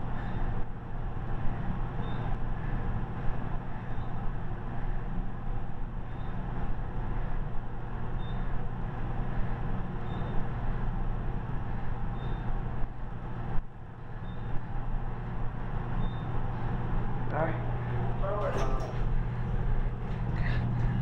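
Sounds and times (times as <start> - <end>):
elevator low hum: 0.0 - 21.0
elevator rushing ride noise: 0.0 - 21.0.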